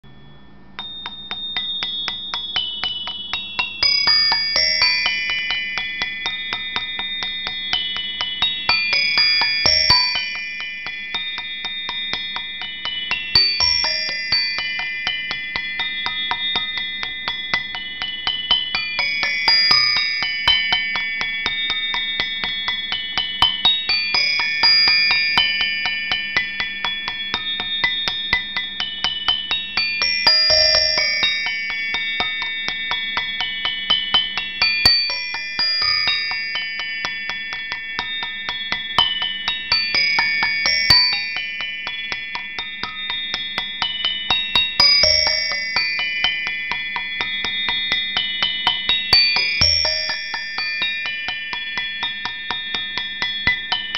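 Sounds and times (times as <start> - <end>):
tinkling bell-like melody: 0.0 - 53.9.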